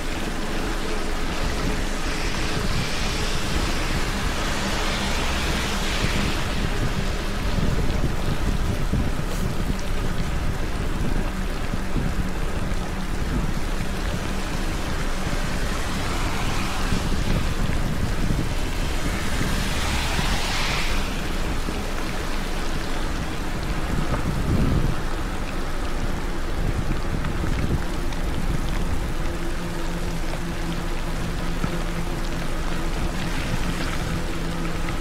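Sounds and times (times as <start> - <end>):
rain on camera: 0.0 - 35.0
wind and riding rumble: 0.0 - 35.0.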